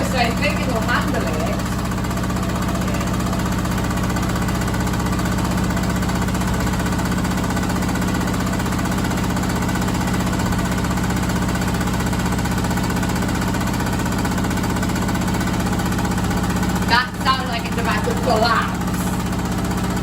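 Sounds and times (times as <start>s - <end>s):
washing machine hammering rattle: 0.0s - 20.0s.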